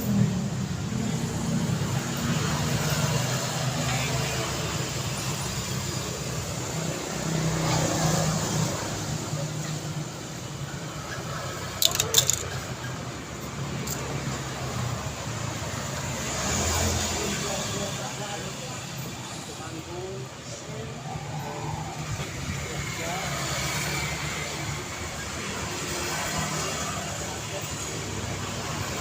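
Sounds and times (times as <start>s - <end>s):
traffic engines humming: 0.0s - 29.0s.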